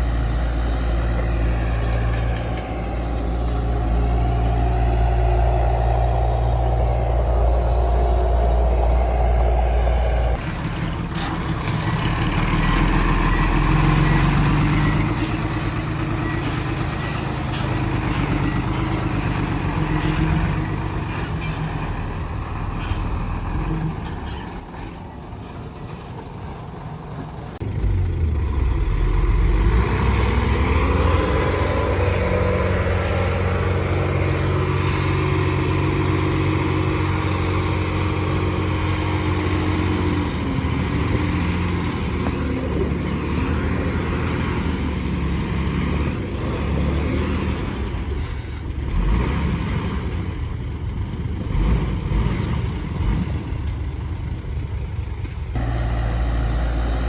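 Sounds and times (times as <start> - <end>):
heavy diesel engine revving: 0.0 - 24.8, 27.3 - 54.0, 55.0 - 57.0.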